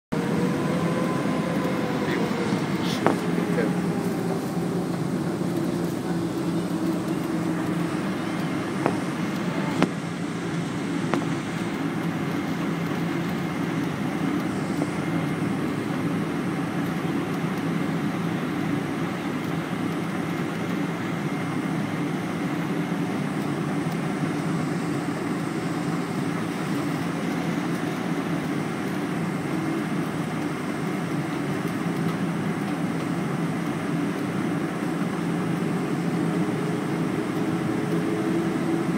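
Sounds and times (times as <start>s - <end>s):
airplane cabin engine hum: 0.1s - 38.9s
thin steady whine: 0.1s - 38.9s.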